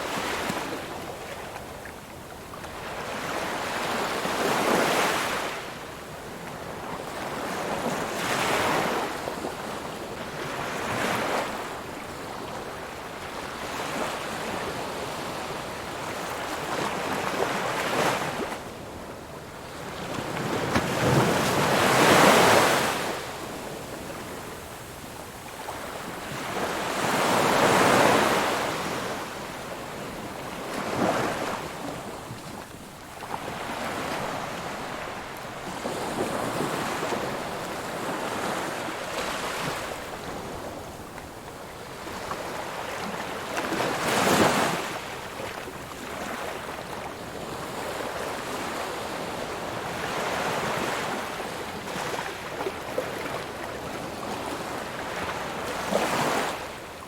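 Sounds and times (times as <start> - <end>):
ocean waves breaking on shore: 6.6 - 57.0.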